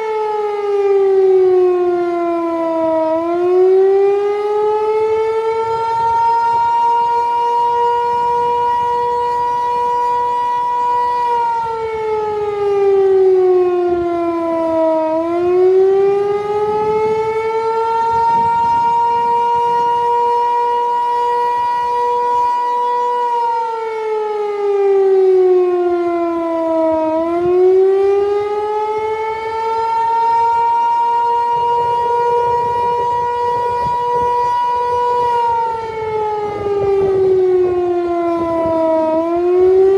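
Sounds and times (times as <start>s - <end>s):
warning siren two-tone howl: 0.0s - 39.9s.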